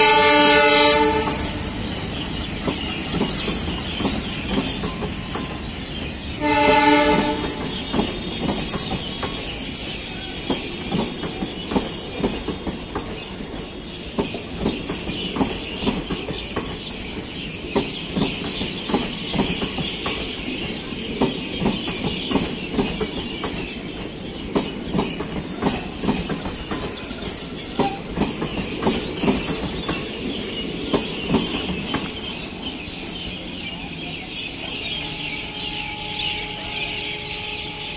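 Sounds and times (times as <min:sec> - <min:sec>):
train wheels clattering over rail joints: 0:00.0 - 0:33.3.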